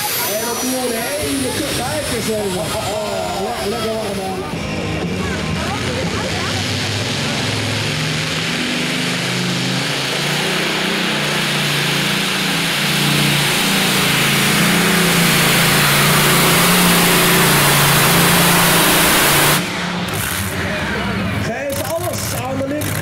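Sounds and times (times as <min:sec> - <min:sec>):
pulling tractor engine roaring: 0:00.0 - 0:23.0.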